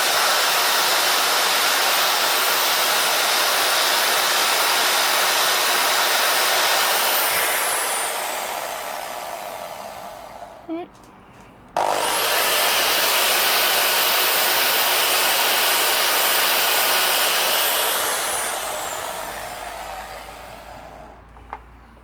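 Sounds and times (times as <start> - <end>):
electric drill whining: 0.0 - 10.6, 11.8 - 21.2.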